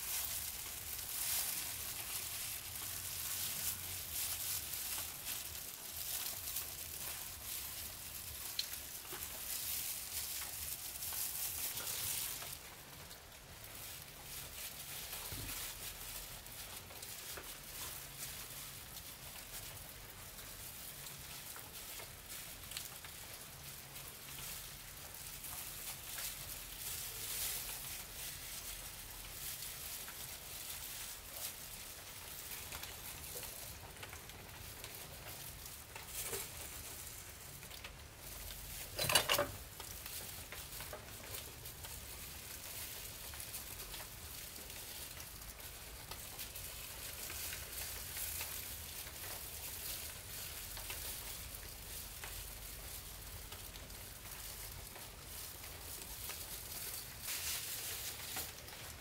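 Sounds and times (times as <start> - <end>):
plastic gloves and wrappers crinkling: 0.0 - 59.0.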